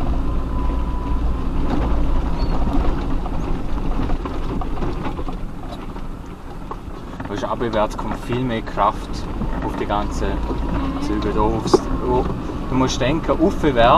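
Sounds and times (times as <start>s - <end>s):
gravel crackling under tyres: 0.0s - 13.9s
off-road vehicle engine rumble: 0.0s - 13.9s.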